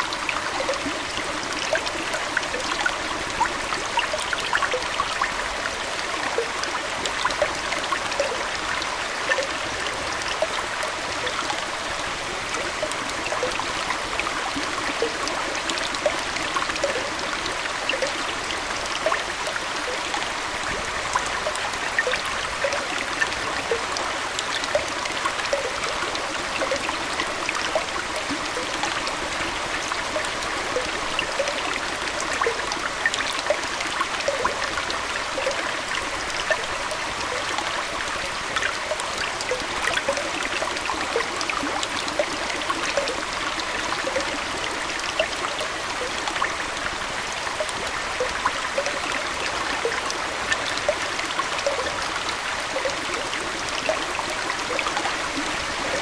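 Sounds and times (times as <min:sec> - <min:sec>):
aquarium water trickling: 0:00.0 - 0:56.0
small water splashes and bubbles: 0:00.0 - 0:56.0.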